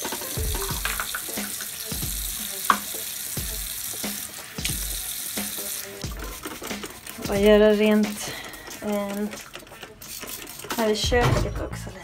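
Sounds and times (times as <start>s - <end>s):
tap water running into basin: 0.0s - 11.1s.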